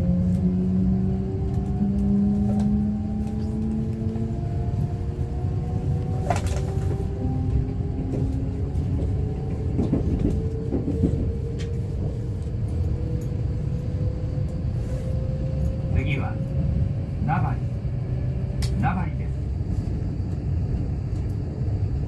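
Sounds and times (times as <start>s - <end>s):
train rumble and motor whine: 0.0s - 22.0s.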